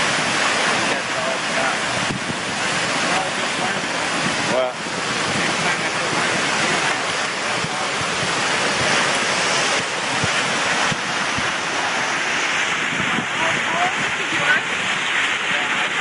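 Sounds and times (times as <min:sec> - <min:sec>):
flood water rushing down creek: 0:00.0 - 0:16.0
wind buffeting microphone: 0:00.0 - 0:16.0.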